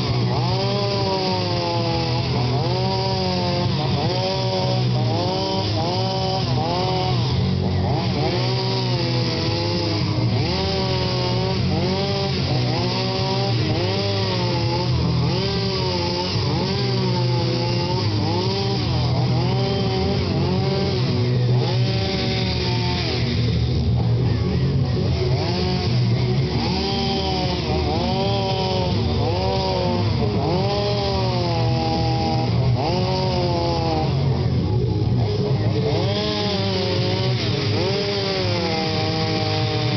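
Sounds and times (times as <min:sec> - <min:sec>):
chainsaw carving wood: 0:00.0 - 0:39.9.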